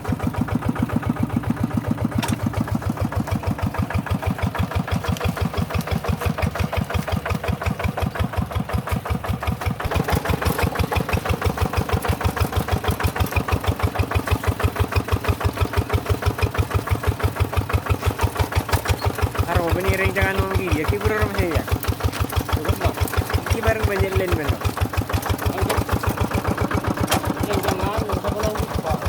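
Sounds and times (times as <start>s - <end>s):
tractor engine chugging: 0.0s - 29.0s.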